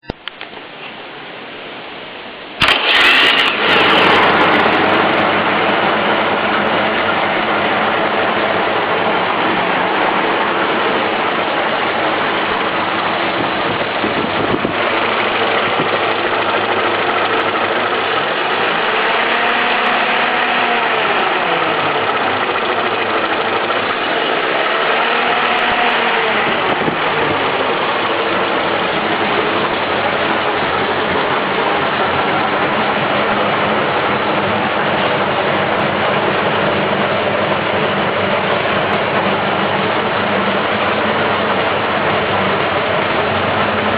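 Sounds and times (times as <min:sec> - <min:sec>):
engine idling: 0:02.5 - 0:43.9.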